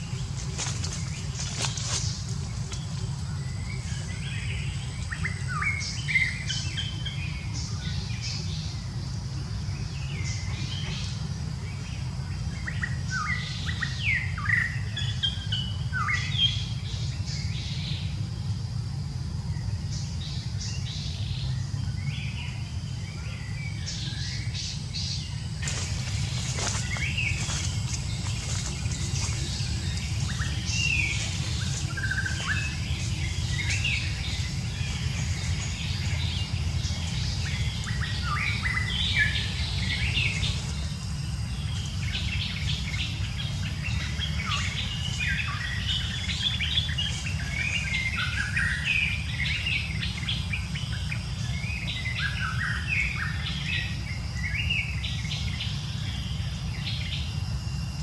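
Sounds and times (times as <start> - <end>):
birds chirping: 0.0 - 58.0
steady low rumble: 0.0 - 58.0.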